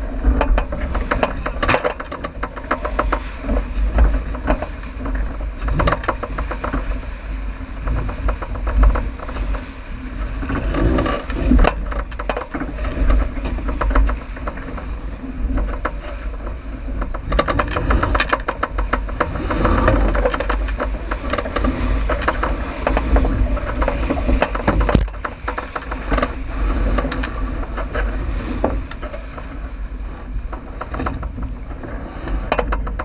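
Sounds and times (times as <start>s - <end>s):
low wind buffeting rumble: 0.0s - 33.0s
water splashing and crackling: 0.0s - 33.0s.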